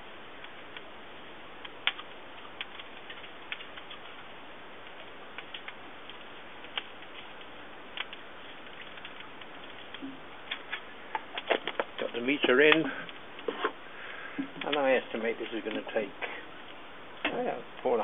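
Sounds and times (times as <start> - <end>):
charcoal fire crackling: 0.0 - 18.0.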